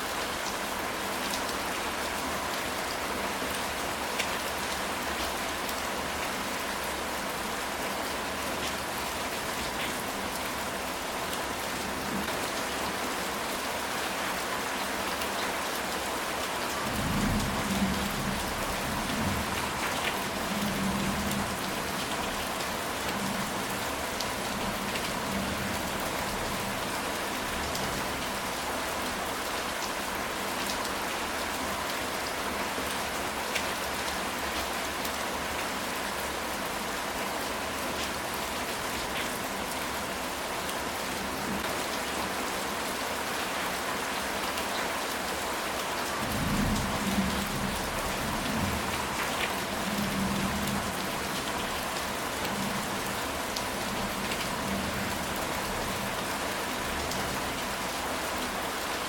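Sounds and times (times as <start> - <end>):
rain on a tile roof: 0.0 - 59.0.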